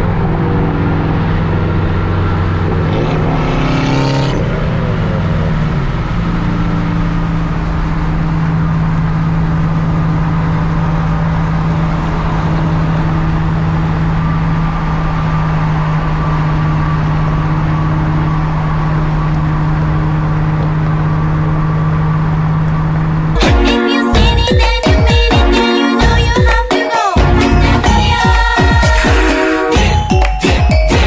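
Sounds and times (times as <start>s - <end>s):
car engine drone and road noise: 0.0s - 31.0s.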